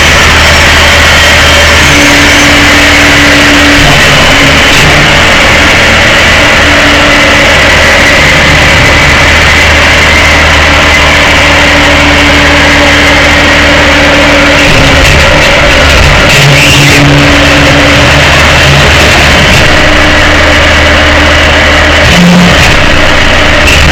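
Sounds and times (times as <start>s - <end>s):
truck engine and road noise: 0.0s - 23.9s.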